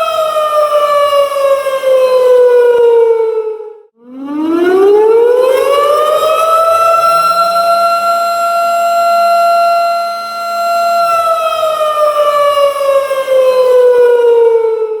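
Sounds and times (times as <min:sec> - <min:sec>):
tornado siren wailing: 0:00.0 - 0:15.0.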